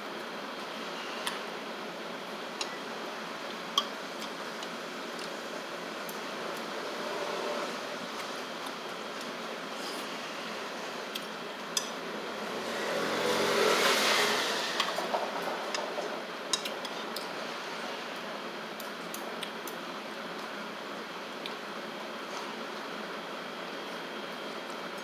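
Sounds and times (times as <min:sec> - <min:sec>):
room noise: 0:00.0 - 0:20.4.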